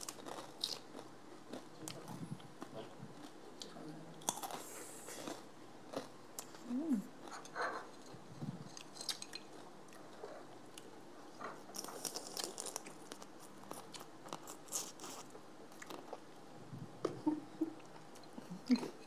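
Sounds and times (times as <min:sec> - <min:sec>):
chewing and crunching: 0:00.0 - 0:16.4.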